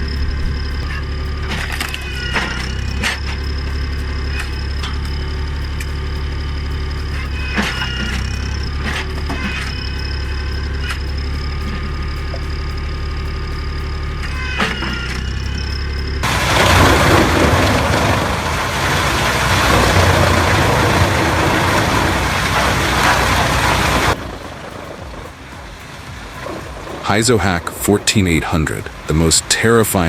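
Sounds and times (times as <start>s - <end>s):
loud rough grinding: 0.0s - 30.0s
wood-processing machine whining: 0.0s - 30.0s.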